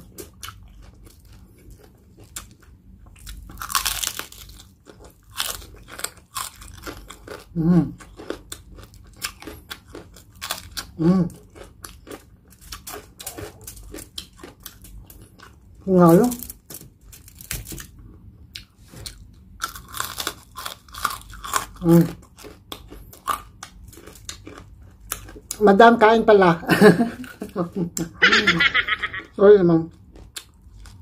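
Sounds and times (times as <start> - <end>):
crunching and chewing: 0.0 - 25.8, 27.0 - 31.0.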